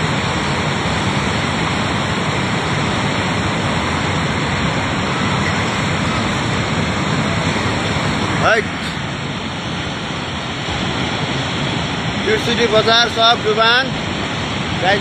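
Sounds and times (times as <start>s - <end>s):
rushing floodwater churning: 0.0s - 15.0s.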